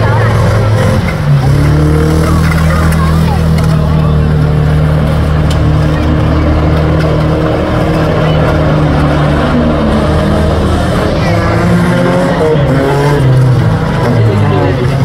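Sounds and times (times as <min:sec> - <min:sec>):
racing car engines running: 0:00.0 - 0:15.0.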